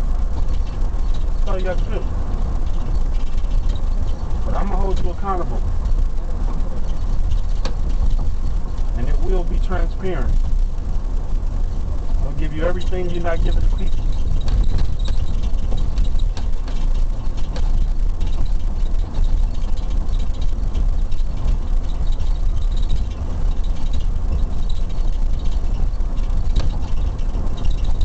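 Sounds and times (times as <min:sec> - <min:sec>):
car engine rumble from inside: 0:00.0 - 0:28.0.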